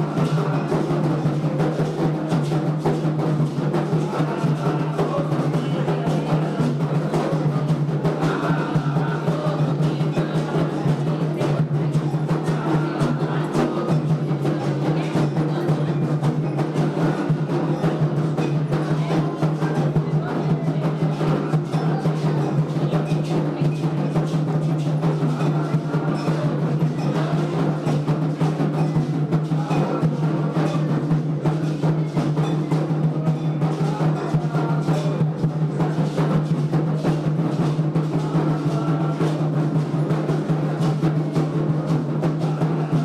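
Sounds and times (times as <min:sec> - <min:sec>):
hand drums playing a rhythm: 0:00.0 - 0:43.0.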